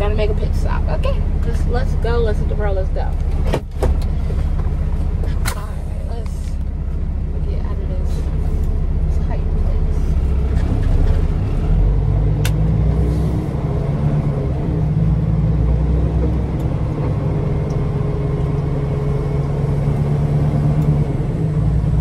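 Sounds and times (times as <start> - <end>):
diesel truck engine rumble: 0.0 - 22.0.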